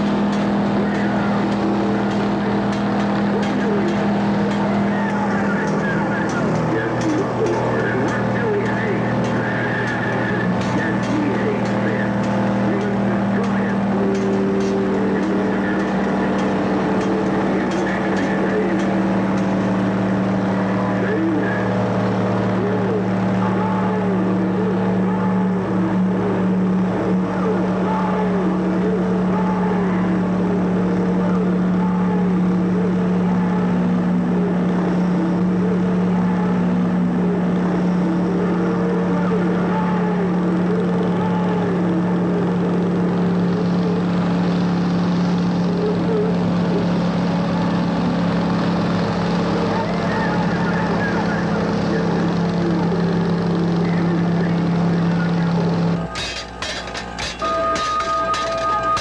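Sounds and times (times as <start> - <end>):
machines droning: 0.0 - 59.0.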